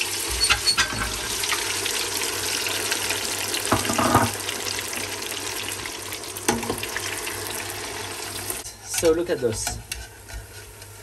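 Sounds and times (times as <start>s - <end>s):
chips sizzling in hot oil: 0.0s - 11.0s.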